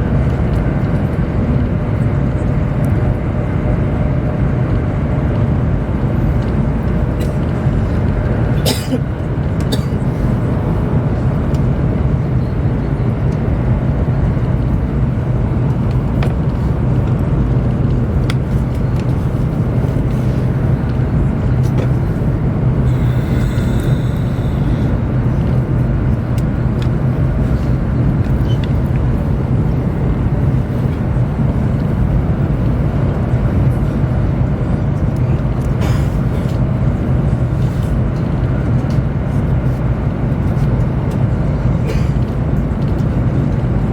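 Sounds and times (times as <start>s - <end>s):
train cabin rumble: 0.0s - 43.9s.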